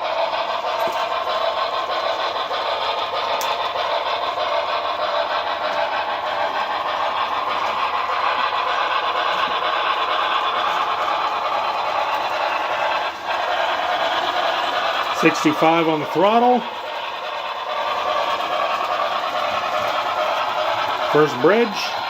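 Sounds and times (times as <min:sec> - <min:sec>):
model steam locomotive running: 0:00.0 - 0:22.0.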